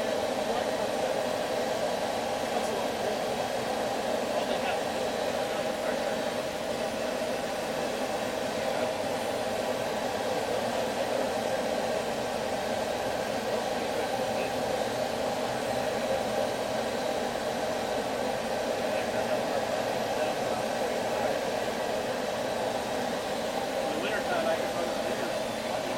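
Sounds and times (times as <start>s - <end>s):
blower rushing noise: 0.0s - 25.9s.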